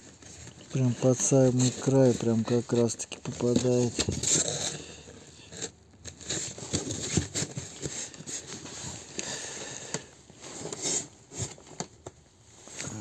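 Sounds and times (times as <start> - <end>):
cardboard rustling and scraping: 0.0 - 12.9.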